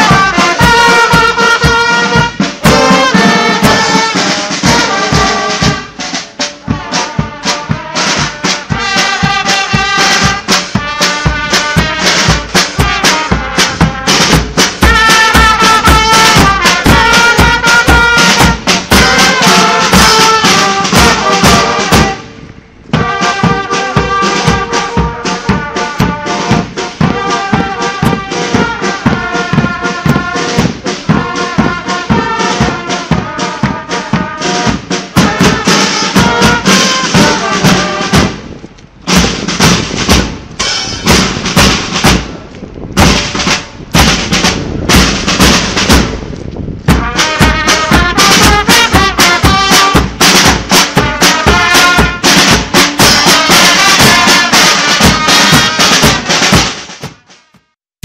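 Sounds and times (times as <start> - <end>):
brass band music: 0.0 - 46.2, 46.8 - 57.8.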